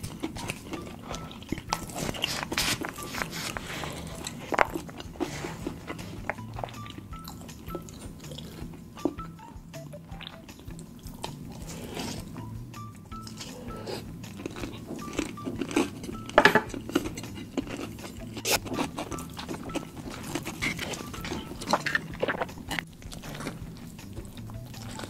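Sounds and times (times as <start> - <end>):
biting into burger: 0.0 - 9.4, 10.1 - 25.0
man chewing food: 0.0 - 25.0.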